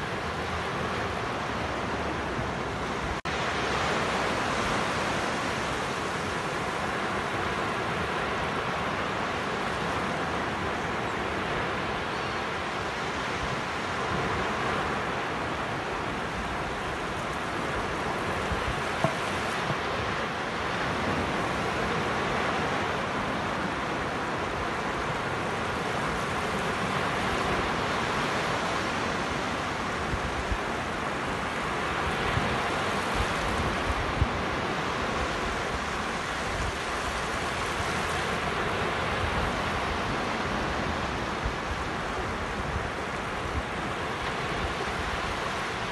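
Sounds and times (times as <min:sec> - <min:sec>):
small waves breaking on sand: 0:00.0 - 0:45.9.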